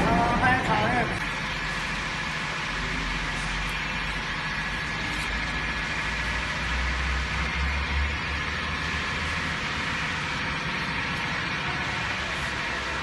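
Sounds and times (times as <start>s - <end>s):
machinery noise: 0.0s - 13.0s.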